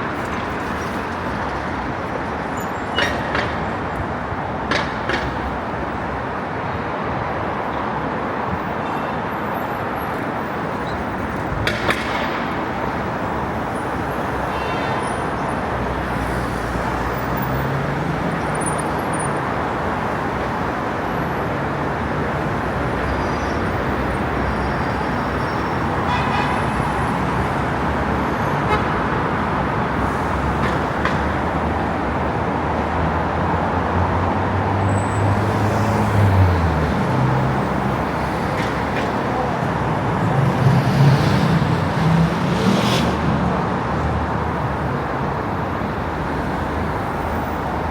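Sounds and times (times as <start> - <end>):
street traffic noise: 0.0 - 47.9.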